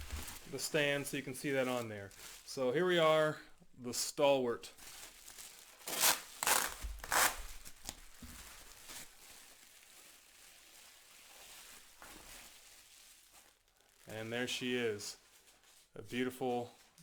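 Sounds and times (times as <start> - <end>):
plastic packaging crinkling and tearing: 0.0 - 3.1, 4.7 - 16.1.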